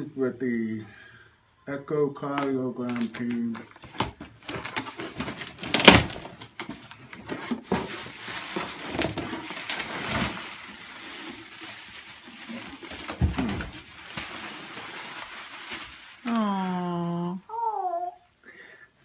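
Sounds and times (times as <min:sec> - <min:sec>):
rustling and handling noises: 0:02.3 - 0:17.7.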